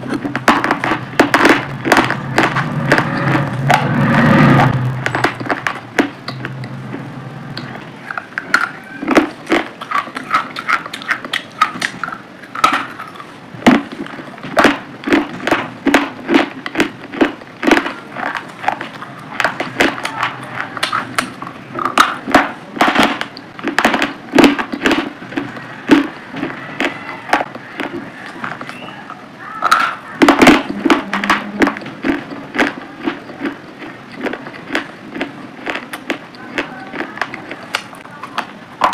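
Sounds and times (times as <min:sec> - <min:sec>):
person chewing crunchy fruit: 0:00.0 - 0:29.0, 0:30.2 - 0:38.9.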